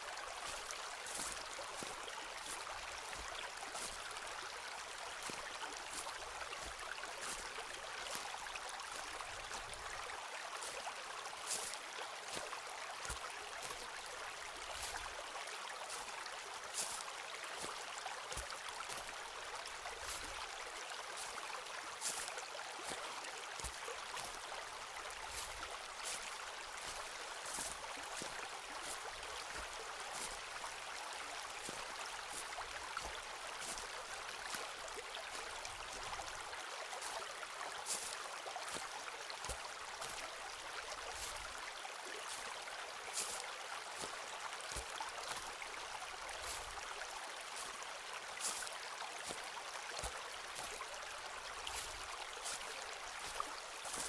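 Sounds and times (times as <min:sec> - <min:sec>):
flowing stream water: 0:00.0 - 0:54.0
footsteps on forest trail: 0:00.0 - 0:54.0.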